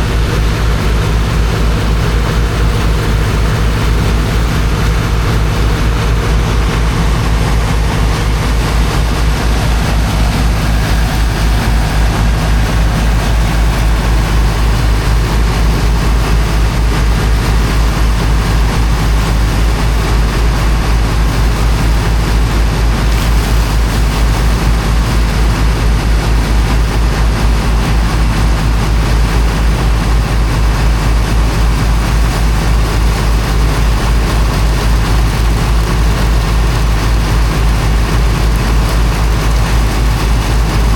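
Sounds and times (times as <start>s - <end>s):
water pump engine throbbing: 0.0s - 40.9s.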